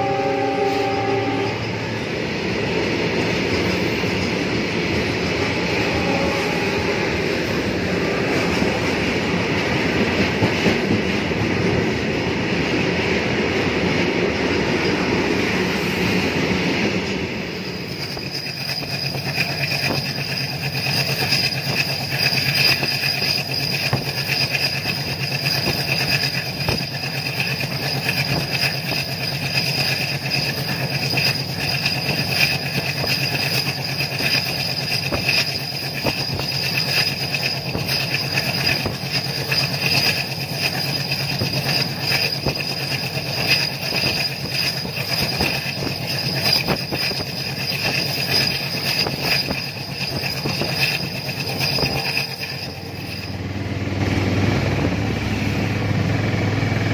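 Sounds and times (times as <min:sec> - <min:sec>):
train wheels ringing on rails: 0:00.0 - 0:56.9.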